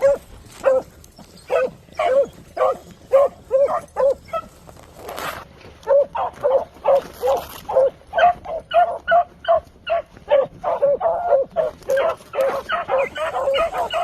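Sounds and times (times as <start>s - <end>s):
beagles baying: 0.0s - 4.6s, 5.8s - 14.0s.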